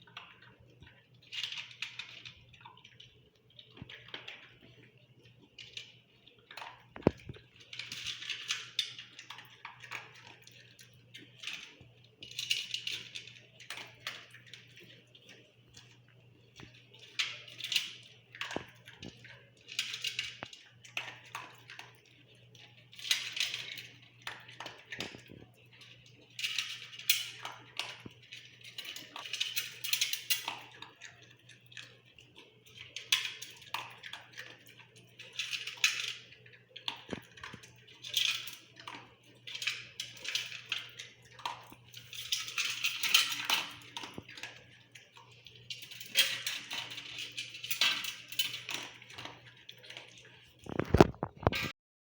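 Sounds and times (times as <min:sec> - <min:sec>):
food clattering against bowl: 0:00.0 - 0:51.8.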